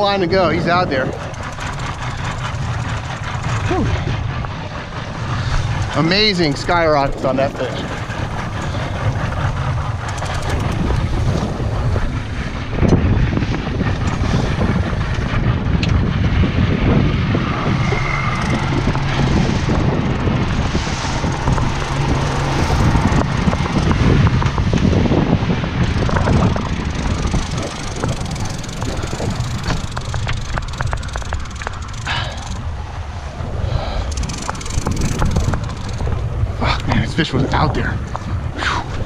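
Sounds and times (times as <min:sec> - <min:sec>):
boat engine running: 0:00.0 - 0:39.0
wind buffeting microphone: 0:00.0 - 0:39.0.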